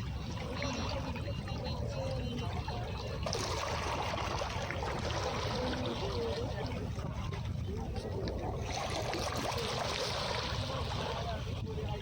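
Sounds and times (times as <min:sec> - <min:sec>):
sea waves washing onto beach: 0:00.0 - 0:12.0.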